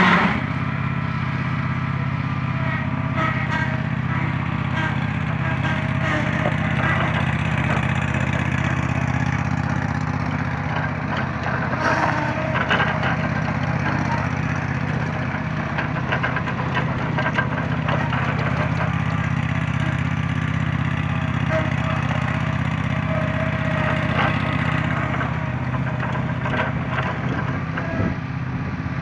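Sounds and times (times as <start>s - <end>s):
ride-on mower engine running: 0.0s - 29.0s.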